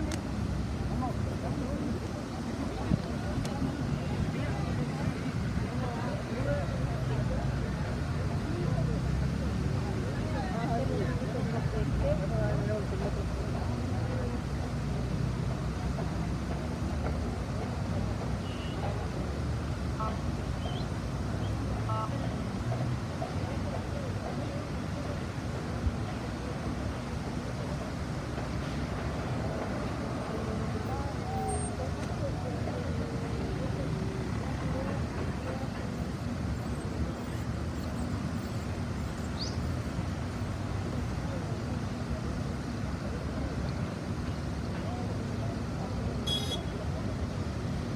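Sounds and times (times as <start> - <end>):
traffic rumble: 0.0 - 47.9.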